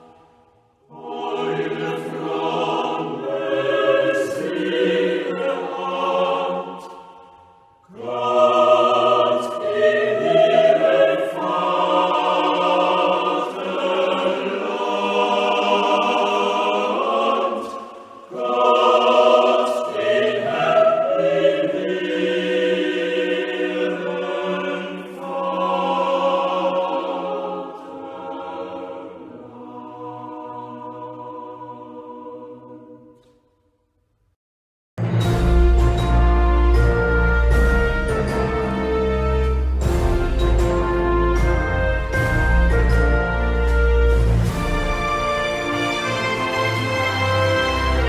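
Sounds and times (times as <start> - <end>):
choir singing held chords: 0.0 - 33.5, 35.0 - 48.0.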